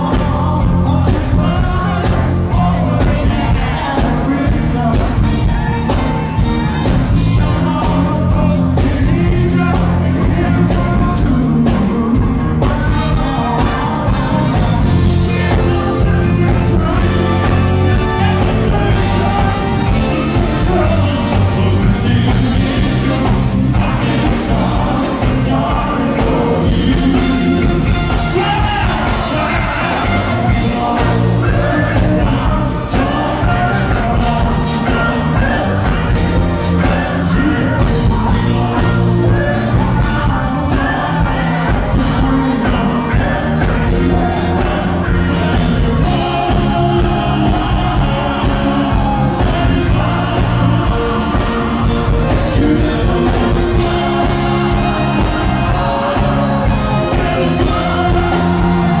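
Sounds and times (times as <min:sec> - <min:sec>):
band playing: 0:00.0 - 0:59.0
vocal group singing: 0:00.0 - 0:59.0.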